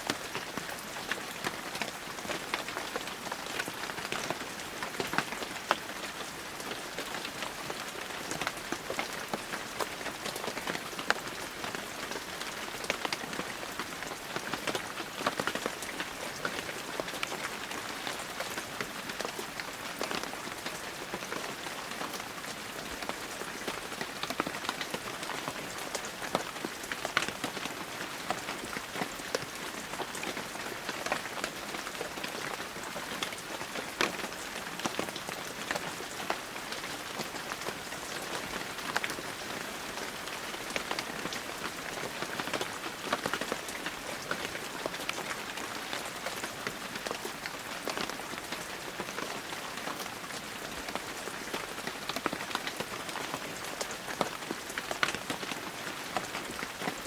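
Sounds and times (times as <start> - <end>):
heavy rain: 0.0 - 57.0
raindrops pattering on surfaces: 0.0 - 57.0.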